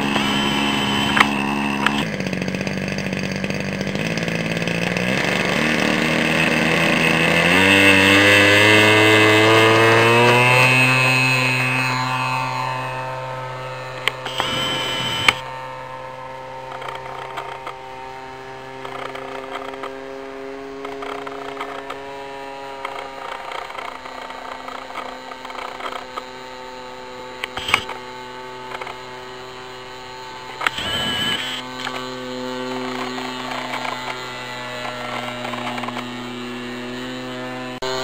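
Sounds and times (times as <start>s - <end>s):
clicks and whirs: 0.0s - 38.0s
model aeroplane engine droning: 0.0s - 38.0s.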